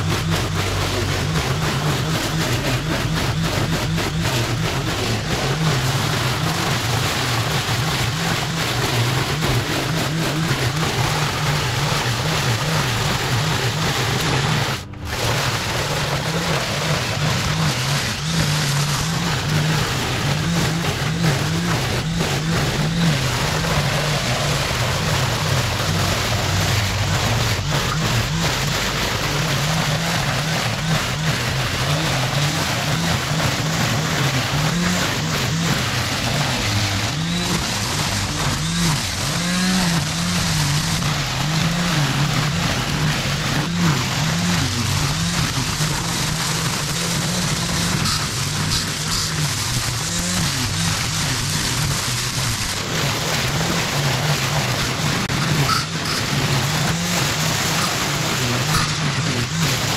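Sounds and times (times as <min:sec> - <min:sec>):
line trimmer cutting grass: 0:00.0 - 0:59.9.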